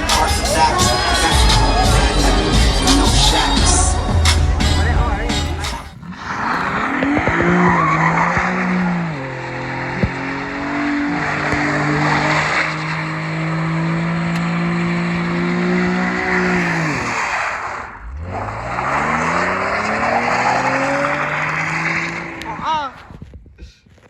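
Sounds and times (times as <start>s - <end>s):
car engine accelerating: 0.0s - 23.2s
road tyre noise: 0.0s - 24.0s.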